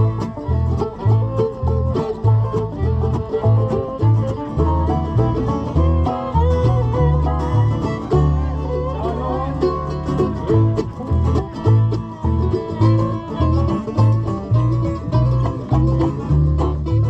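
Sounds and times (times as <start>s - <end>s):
acoustic guitar: 0.0s - 17.0s
banjo picking: 0.0s - 17.0s
low bass notes: 0.0s - 17.0s.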